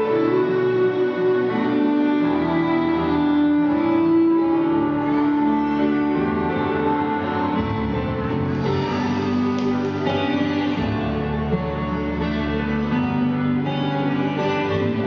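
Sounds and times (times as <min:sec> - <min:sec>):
instrumental ballroom dance music: 0:00.0 - 0:15.0.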